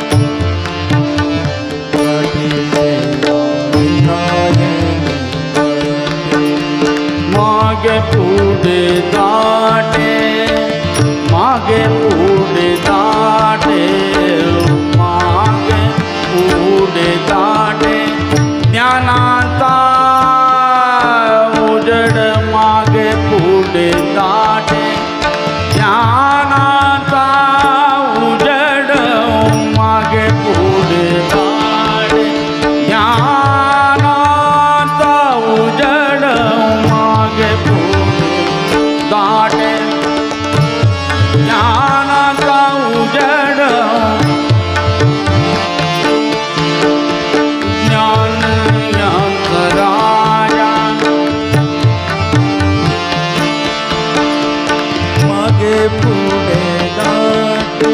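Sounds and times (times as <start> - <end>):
man singing devotional song: 0.0 - 57.9
tabla playing steady rhythm: 0.0 - 57.9.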